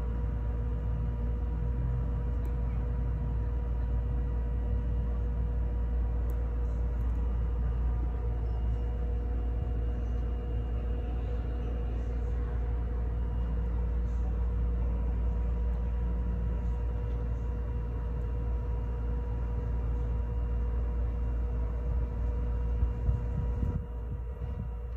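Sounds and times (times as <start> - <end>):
faint constant hum: 0.0 - 24.9
low mechanical rumble: 0.0 - 24.9.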